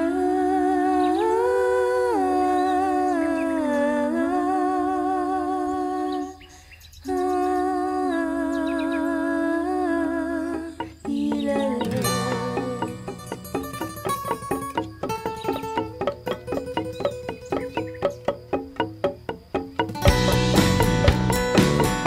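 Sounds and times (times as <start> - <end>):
voices humming in harmony: 0.0 - 22.0.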